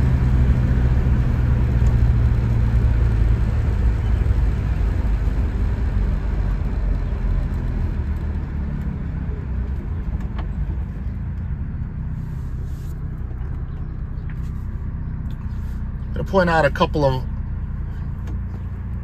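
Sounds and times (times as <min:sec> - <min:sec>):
car engine from inside: 0:00.0 - 0:19.0
road noise: 0:00.0 - 0:19.0.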